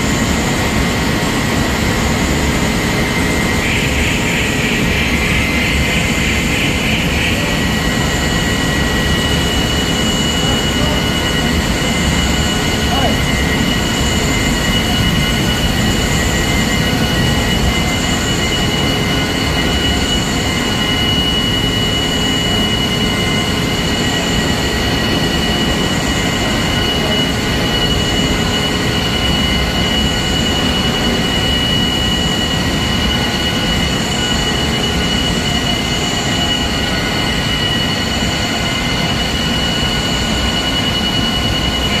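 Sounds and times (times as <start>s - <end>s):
high whine: 0.0s - 42.0s.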